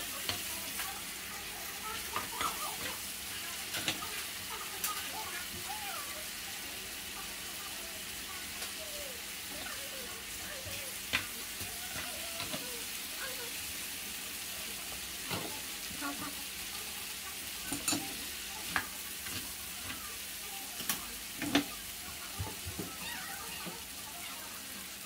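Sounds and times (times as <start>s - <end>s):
sauce sizzling in a pan: 0.0s - 25.0s.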